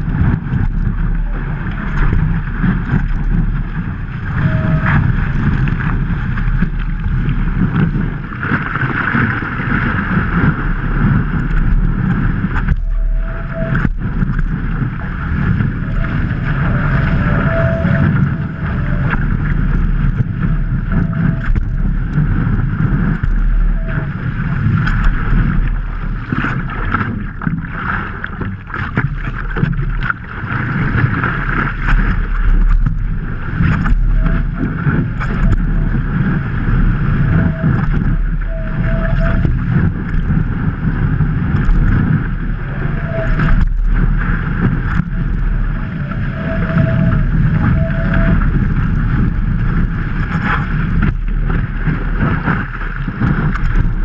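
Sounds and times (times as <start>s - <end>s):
whitewater rushing and splashing: 0.0s - 54.0s
wind buffeting microphone: 0.0s - 54.0s.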